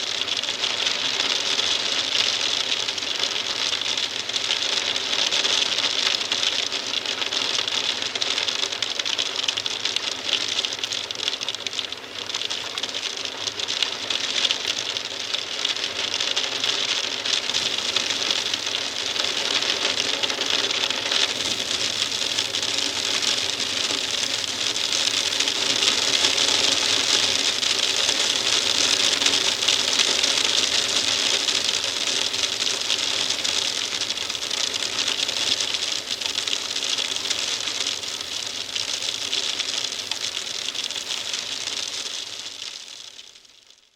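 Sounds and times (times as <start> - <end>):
hail tapping on a window: 0.0 - 43.7.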